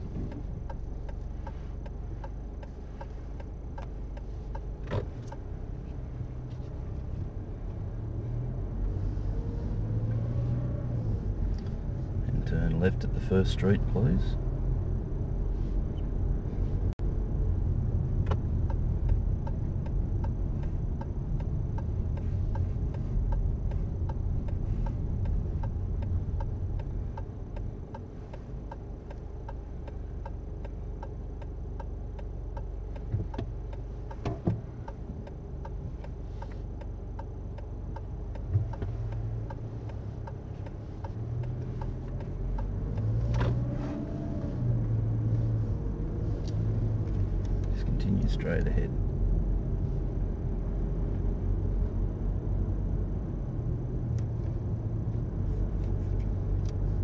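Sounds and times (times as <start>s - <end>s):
turn signal ticking: 0.0s - 15.3s, 16.8s - 57.0s
engine and tyre hum: 0.0s - 57.0s.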